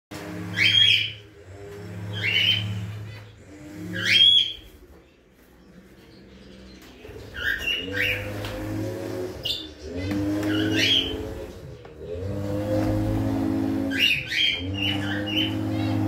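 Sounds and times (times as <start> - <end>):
cage birds chirping: 0.1 - 16.0
low droning hum: 0.1 - 16.0.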